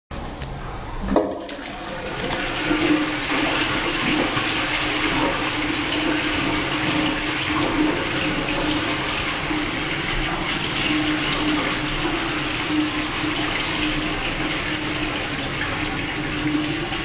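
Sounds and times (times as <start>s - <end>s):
toilet flush water rushing: 0.2s - 17.0s.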